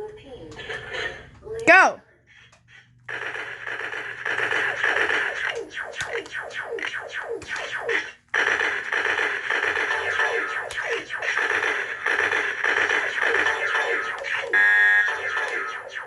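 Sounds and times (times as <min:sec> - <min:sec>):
toy laser gun sound effects: 0:03.1 - 0:16.0.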